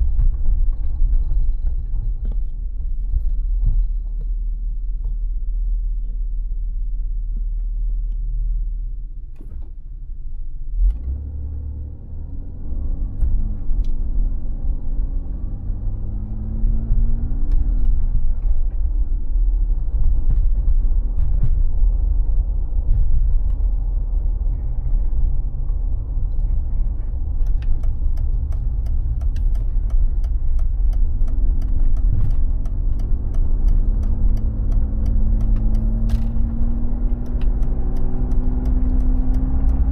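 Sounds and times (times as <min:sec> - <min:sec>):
car engine rumbling and revving: 0:00.0 - 0:39.9.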